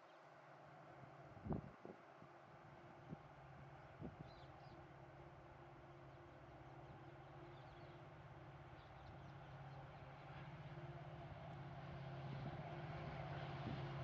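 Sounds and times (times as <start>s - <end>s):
low train rumble: 0.4s - 14.0s.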